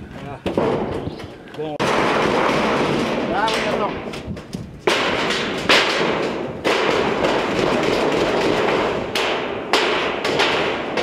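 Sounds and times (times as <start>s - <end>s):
footsteps on metal roof: 0.0s - 11.0s
metal sheet rattling: 0.5s - 11.0s.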